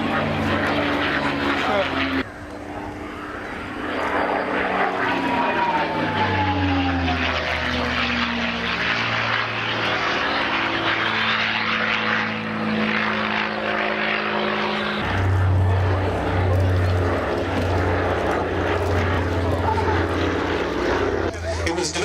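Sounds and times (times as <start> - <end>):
propeller plane engines droning: 0.0 - 22.0.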